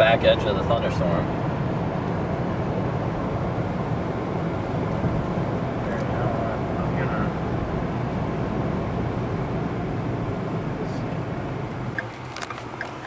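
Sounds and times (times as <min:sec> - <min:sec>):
vehicle interior rumble: 0:00.0 - 0:13.0.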